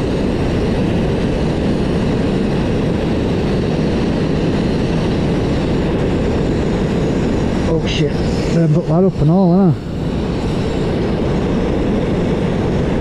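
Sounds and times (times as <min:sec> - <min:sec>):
compressed air rushing: 0:00.0 - 0:13.0.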